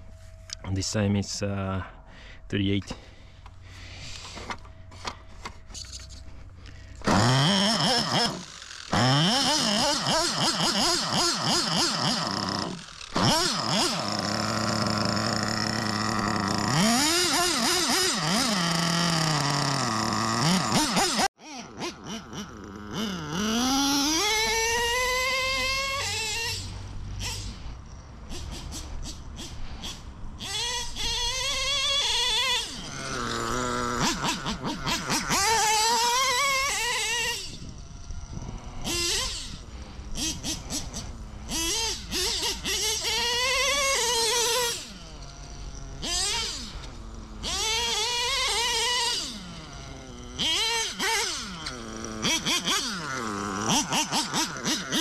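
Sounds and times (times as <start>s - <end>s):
rc engine revving: 3.8s - 55.0s.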